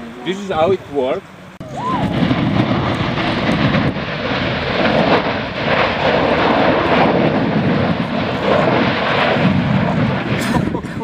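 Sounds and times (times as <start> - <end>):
volcanic gas rushing blast: 0.0 - 11.0.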